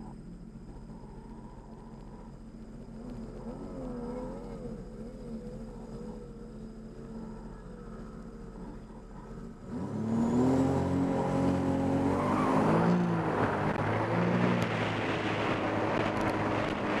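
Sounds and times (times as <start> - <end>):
personal watercraft engine accelerating: 2.8 - 17.0.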